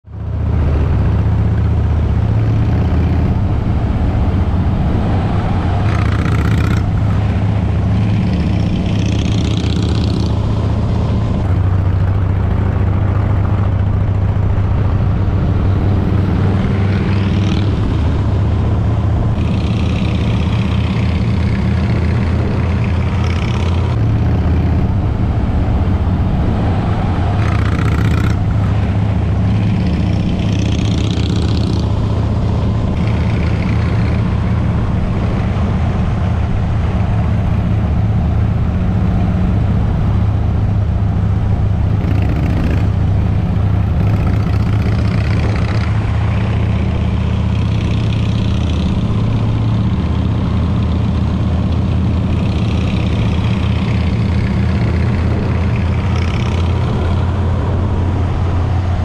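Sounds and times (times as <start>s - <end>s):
motorcycle engine rumbling: 0.0s - 59.0s.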